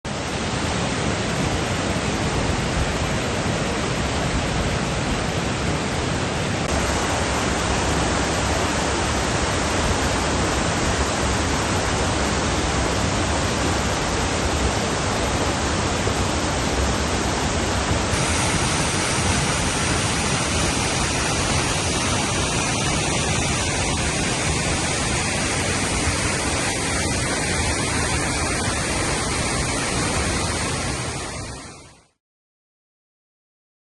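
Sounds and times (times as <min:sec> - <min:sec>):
rush of falling water: 0:00.1 - 0:32.2.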